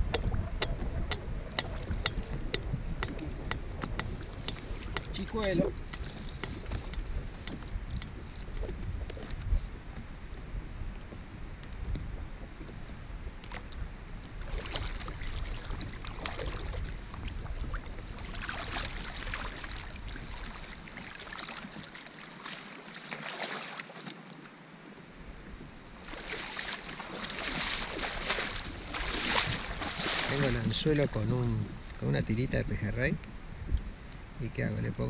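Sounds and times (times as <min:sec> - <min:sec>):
wind rumbling on microphone: 0:00.0 - 0:22.0, 0:24.8 - 0:35.0
shallow water sloshing: 0:00.0 - 0:24.6, 0:25.2 - 0:32.4.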